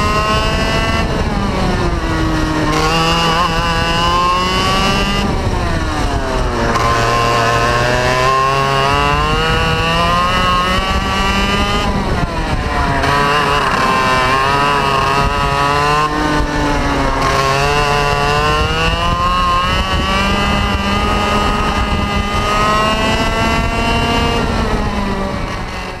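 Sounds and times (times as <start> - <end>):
kart engine revving: 0.0 - 26.0.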